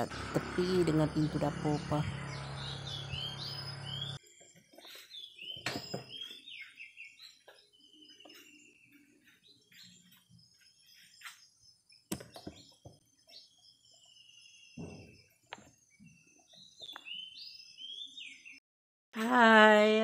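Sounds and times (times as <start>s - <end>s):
small birds chirping: 0.0s - 18.6s.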